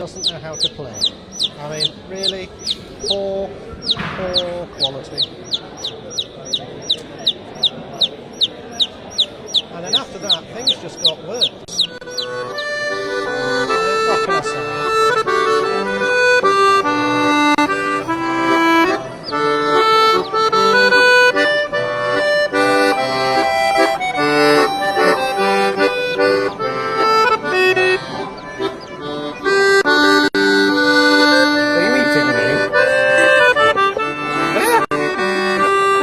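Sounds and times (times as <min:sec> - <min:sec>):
accordion playing a tune: 0:00.0 - 0:36.0.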